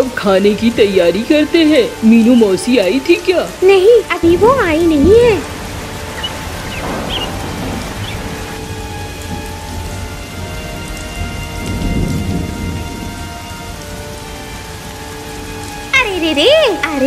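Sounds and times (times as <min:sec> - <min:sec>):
heavy rain: 0:00.0 - 0:17.0
thunder rumble: 0:00.0 - 0:17.0.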